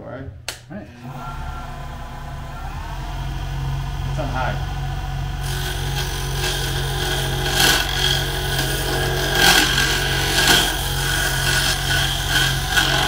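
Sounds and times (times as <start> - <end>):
lathe motor hum: 0.7 - 13.0
chisel scraping spinning wood: 2.0 - 13.0.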